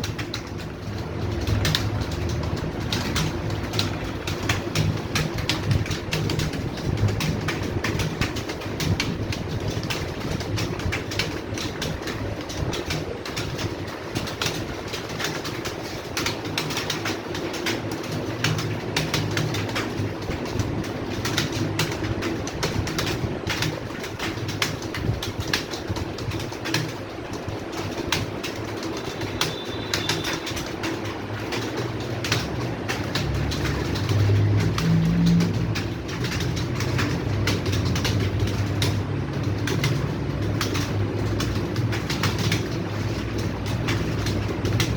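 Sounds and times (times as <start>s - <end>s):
keyboards clattering: 0.0s - 44.9s.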